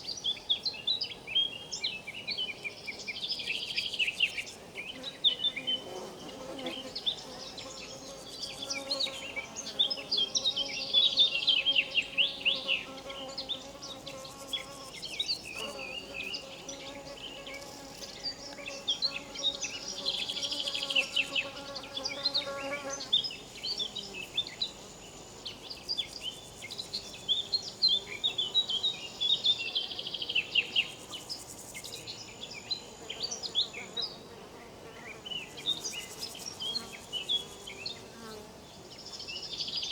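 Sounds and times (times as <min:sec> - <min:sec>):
insect buzzing: 0:03.4 - 0:39.2.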